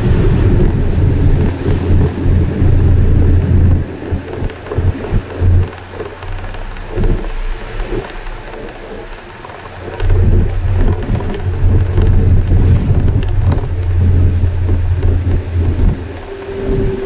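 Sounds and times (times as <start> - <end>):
bus engine drone: 0.0 - 17.0
wind gusts: 0.0 - 17.0.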